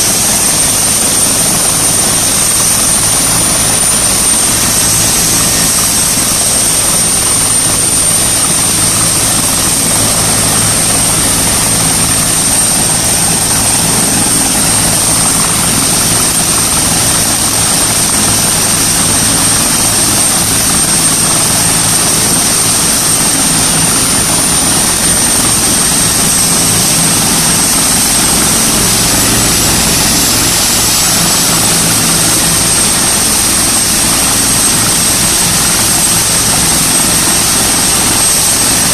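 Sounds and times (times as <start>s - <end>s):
helicopter rotor and engine noise: 0.0s - 38.9s
turbine whine: 0.0s - 38.9s.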